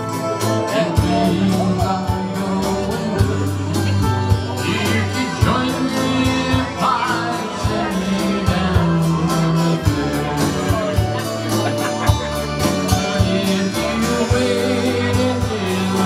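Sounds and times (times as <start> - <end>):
guitars: 0.0 - 16.0
keyboard: 0.0 - 16.0
person singing: 0.0 - 16.0
drum beat: 1.0 - 16.0.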